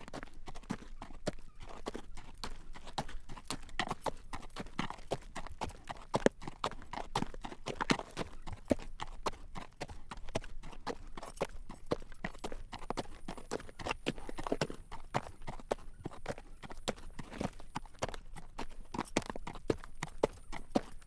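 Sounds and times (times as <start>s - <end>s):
horse hooves clip-clopping on road: 0.0s - 21.0s.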